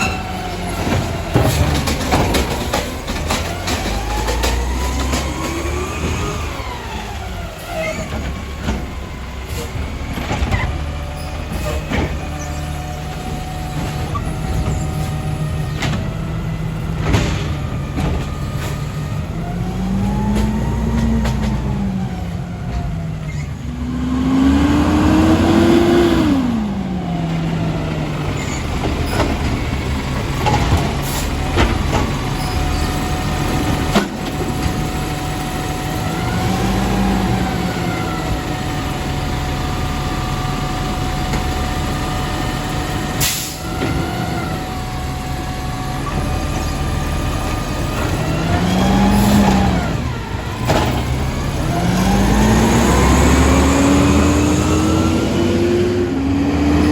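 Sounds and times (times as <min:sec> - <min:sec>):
garbage truck engine revving: 0:00.0 - 0:56.9.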